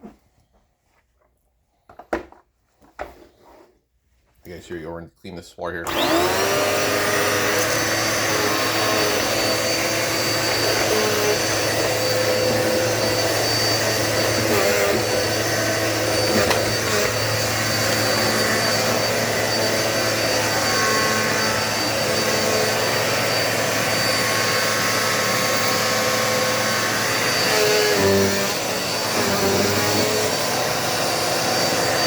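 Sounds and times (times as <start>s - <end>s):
vacuum cleaner running: 5.9s - 32.0s.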